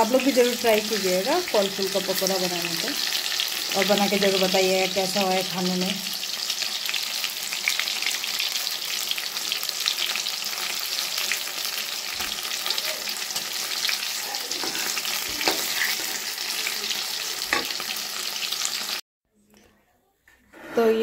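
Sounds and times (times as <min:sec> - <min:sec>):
deep-frying sizzle in hot oil: 0:00.0 - 0:19.0.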